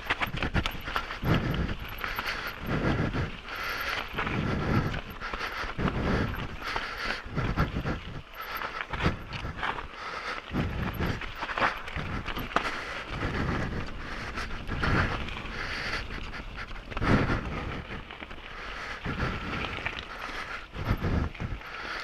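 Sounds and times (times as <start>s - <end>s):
bike and trail clatter: 0.0s - 22.0s
heavy breathing into microphone: 0.0s - 22.0s.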